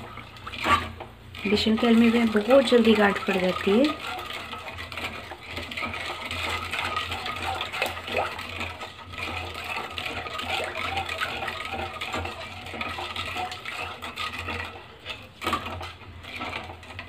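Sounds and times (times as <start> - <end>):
metal spoon scraping a pan: 0.0 - 17.0.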